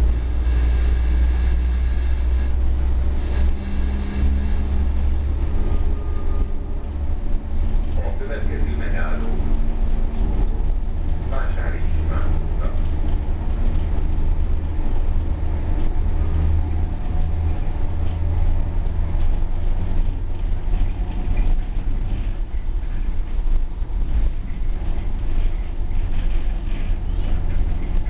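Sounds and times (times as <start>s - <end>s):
low hum: 0.0s - 28.0s
tram running rumble: 0.0s - 28.0s.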